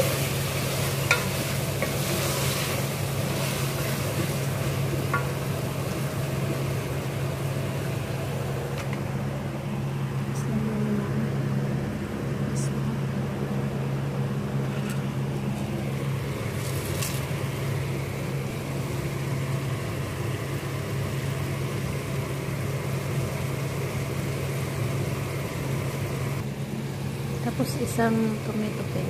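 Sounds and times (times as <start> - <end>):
fan or motor humming: 0.0 - 29.0.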